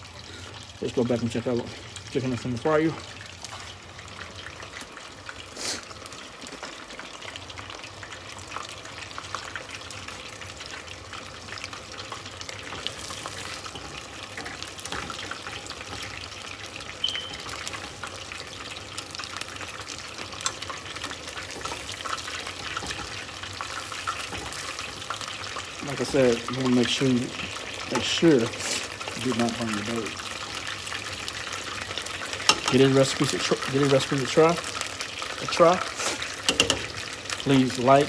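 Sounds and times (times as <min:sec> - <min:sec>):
chicken deep-frying in oil: 0:00.0 - 0:38.0.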